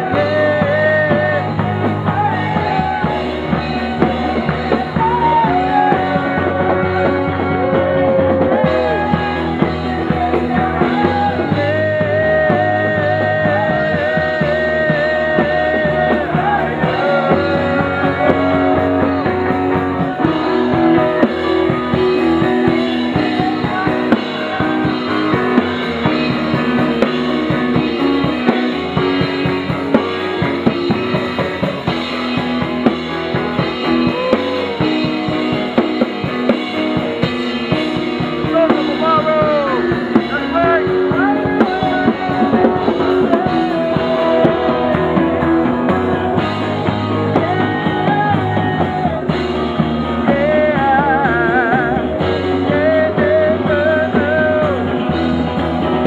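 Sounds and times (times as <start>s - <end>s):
bass guitar: 0.0s - 56.0s
drum kit: 0.0s - 56.0s
electric guitar: 0.0s - 56.0s
keyboard: 0.0s - 56.0s.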